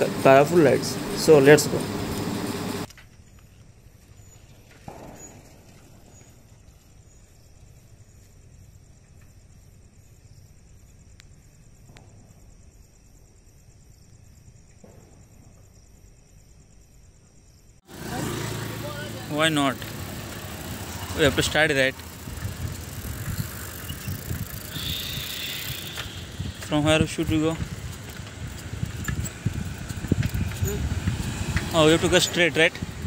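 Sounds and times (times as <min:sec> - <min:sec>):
insects chirring: 0:02.8 - 0:33.0.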